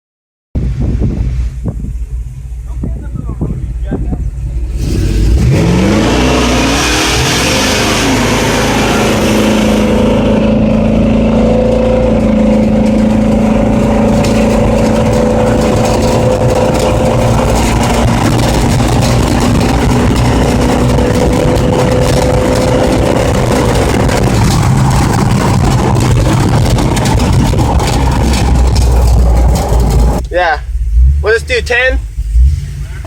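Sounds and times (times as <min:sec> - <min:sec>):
truck engine accelerating hard: 0:04.2 - 0:33.0.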